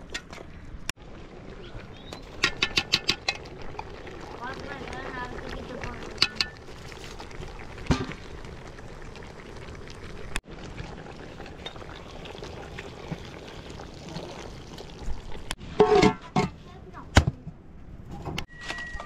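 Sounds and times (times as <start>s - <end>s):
stew bubbling in pot: 0.0s - 15.6s.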